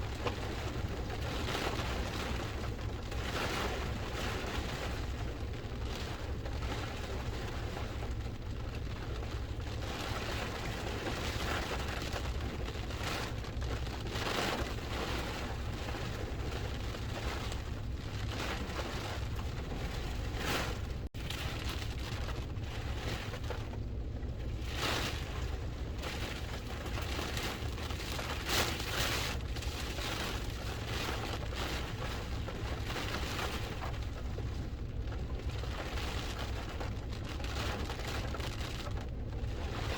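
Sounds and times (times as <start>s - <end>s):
rain rushing: 0.0s - 39.9s.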